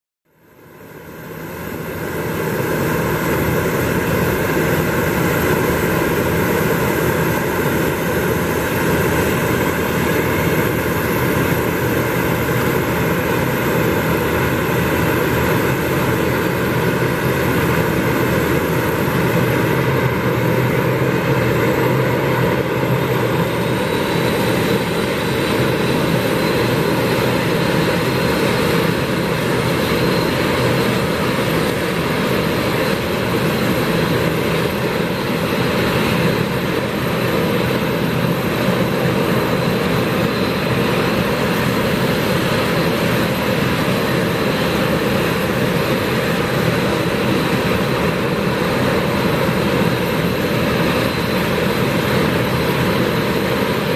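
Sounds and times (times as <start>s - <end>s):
turboprop engine whine and rumble: 0.3s - 53.9s
high rising whine: 0.6s - 53.9s.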